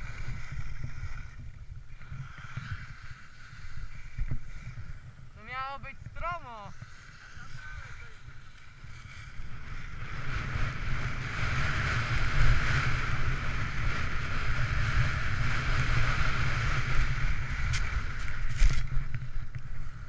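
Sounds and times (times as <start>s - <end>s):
skis hissing over snow: 0.0s - 5.2s, 6.7s - 20.0s
wind rumbling over microphone: 0.0s - 20.0s.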